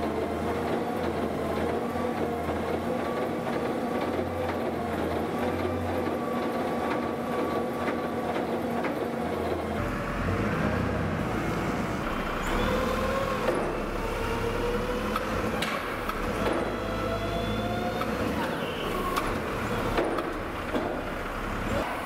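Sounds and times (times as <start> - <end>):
loader engine and hydraulics: 0.0 - 22.0.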